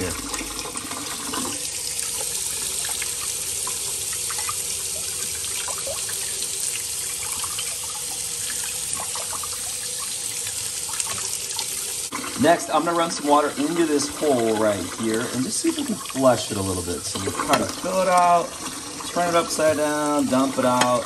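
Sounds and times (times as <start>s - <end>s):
faucet water splashing: 0.0s - 21.0s.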